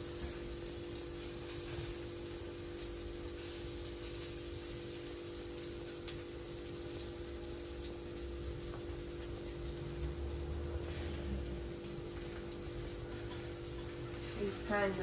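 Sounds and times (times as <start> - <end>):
food frying in oil: 0.0 - 15.0.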